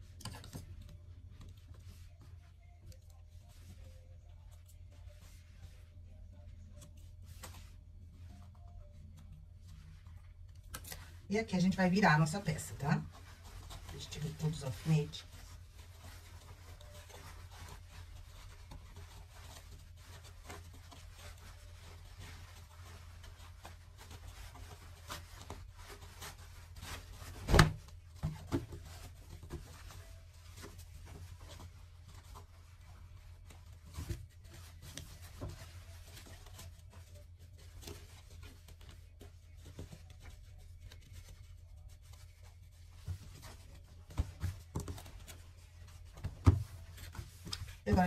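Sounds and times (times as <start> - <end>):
fabric rustling: 0.0 - 48.0.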